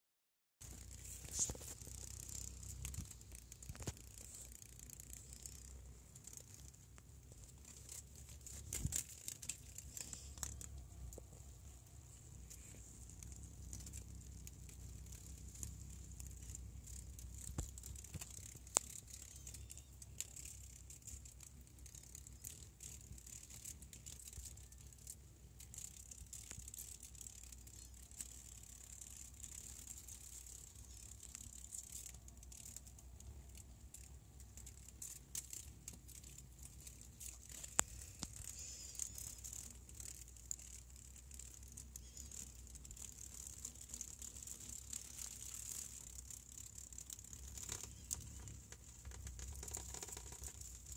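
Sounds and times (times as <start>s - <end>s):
handling clicks and rustles: 0.6s - 50.9s
low steady hum: 0.6s - 50.9s.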